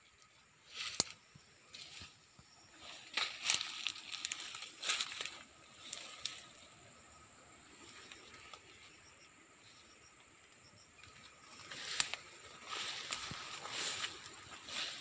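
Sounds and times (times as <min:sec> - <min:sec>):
leaves rustling against phone: 0:00.6 - 0:07.0, 0:07.8 - 0:09.9, 0:10.9 - 0:15.0.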